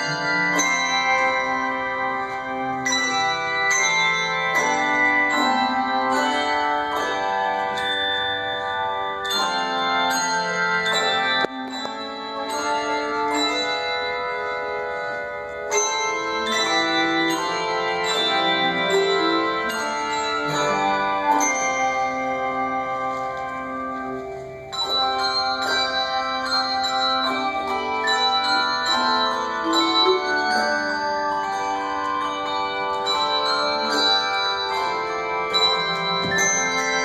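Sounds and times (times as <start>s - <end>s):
handbell choir ringing chords: 0.0s - 37.0s.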